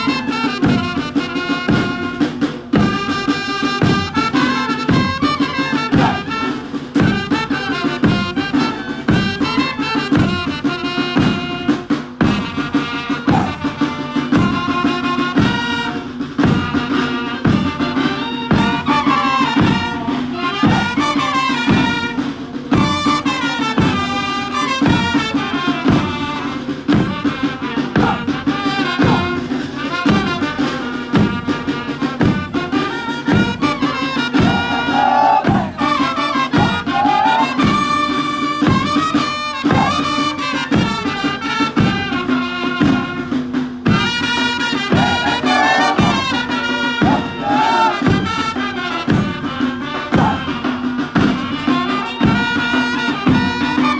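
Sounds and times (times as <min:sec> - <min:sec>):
music with steady drumbeat: 0:00.0 - 0:53.9.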